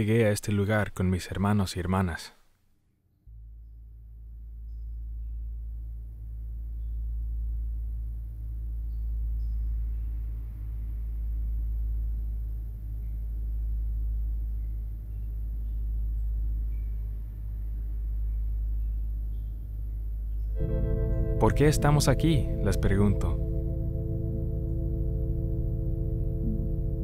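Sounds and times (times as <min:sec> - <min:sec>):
deep low drone: 0:03.3 - 0:27.0.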